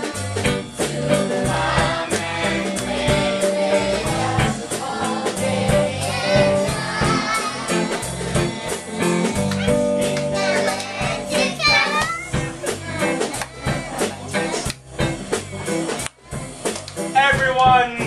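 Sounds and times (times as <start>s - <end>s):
group singing: 0.0s - 14.9s
band accompaniment with beat: 0.0s - 18.0s.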